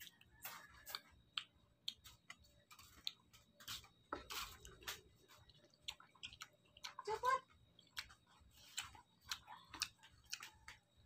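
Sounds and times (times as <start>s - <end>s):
person biting and chewing fruit: 0.0s - 11.0s.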